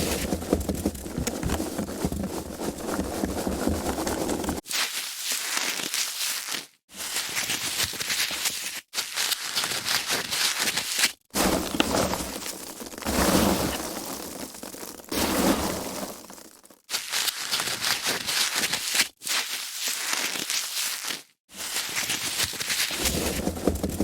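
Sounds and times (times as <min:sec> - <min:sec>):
foam packaging rustling and squeaking: 0:00.0 - 0:24.0.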